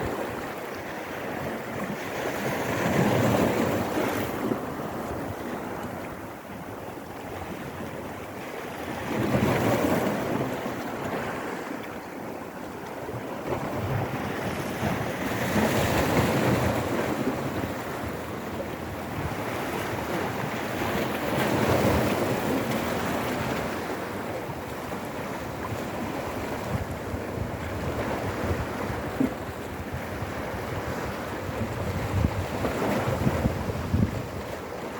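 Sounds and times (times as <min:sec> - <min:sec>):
waves crashing on rocky shore: 0:00.0 - 0:34.9.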